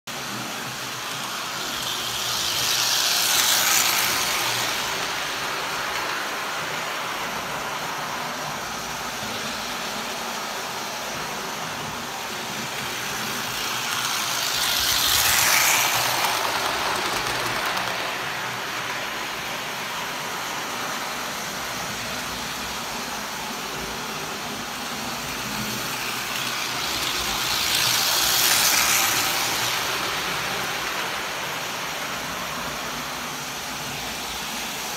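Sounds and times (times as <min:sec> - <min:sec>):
toy train wheels rattling on rails: 0:00.1 - 0:10.5, 0:11.2 - 0:23.3, 0:23.9 - 0:34.9.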